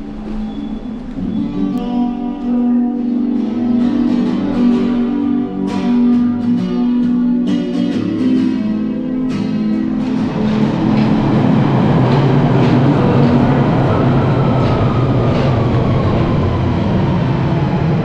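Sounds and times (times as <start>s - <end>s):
guitar playing: 0.0s - 18.0s.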